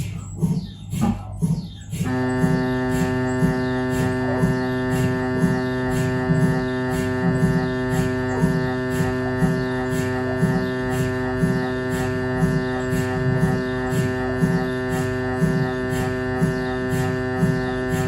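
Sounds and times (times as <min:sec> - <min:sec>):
mri scanner pulsing hum: 0:00.0 - 0:18.0.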